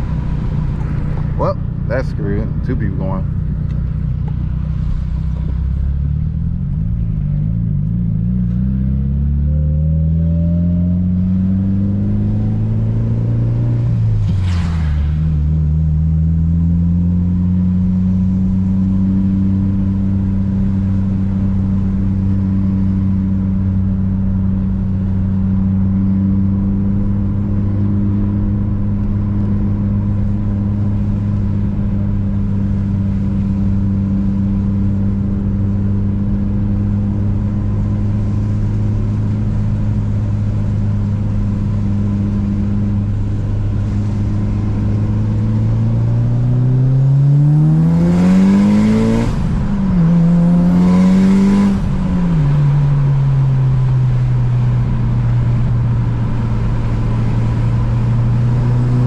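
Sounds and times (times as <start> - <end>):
car engine cruising at steady revs: 0.0 - 59.0.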